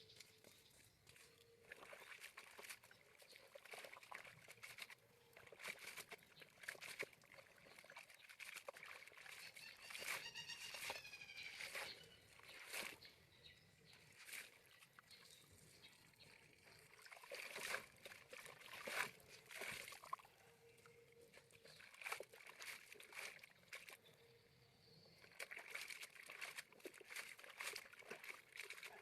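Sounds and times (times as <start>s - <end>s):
water sloshing and splashing: 0.0s - 29.0s.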